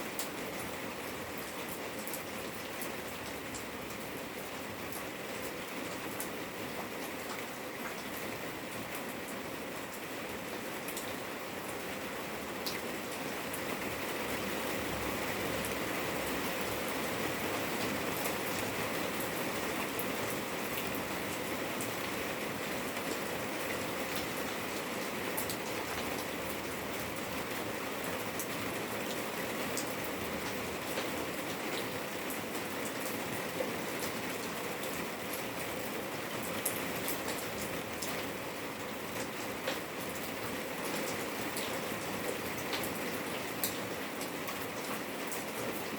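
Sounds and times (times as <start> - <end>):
raindrops ticking on surfaces: 0.0 - 45.9.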